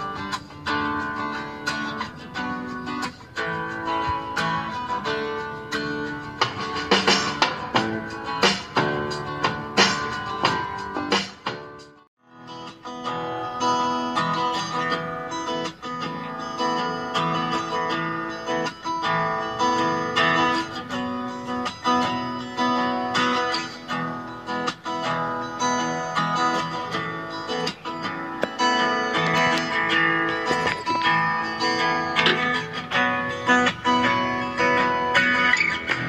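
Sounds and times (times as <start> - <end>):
guitar music through loudspeaker: 0.0 - 36.0.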